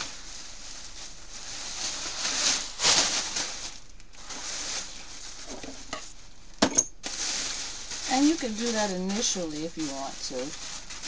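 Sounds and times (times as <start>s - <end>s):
plastic sheeting crinkling: 0.0s - 11.0s.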